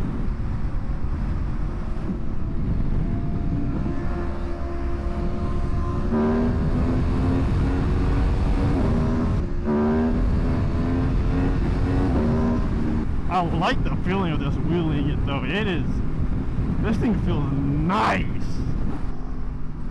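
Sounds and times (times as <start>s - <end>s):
motorcycle engine accelerating: 0.0s - 18.0s
wind and road noise: 0.0s - 19.9s.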